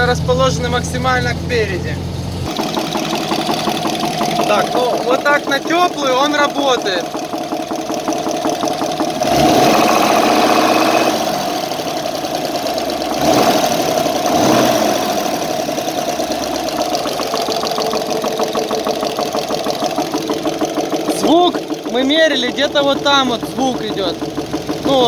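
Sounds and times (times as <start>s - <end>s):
engine revving: 0.0s - 25.0s
truck engine knocking: 0.0s - 25.0s.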